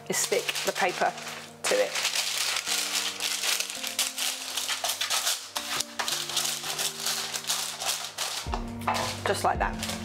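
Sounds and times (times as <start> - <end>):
soft background music: 0.0 - 10.0
paper crinkling and rustling: 0.1 - 10.0.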